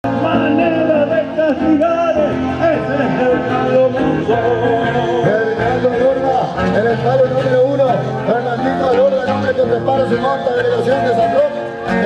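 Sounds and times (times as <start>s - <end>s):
instrumental accompaniment: 0.0s - 12.0s
person singing: 0.0s - 12.0s.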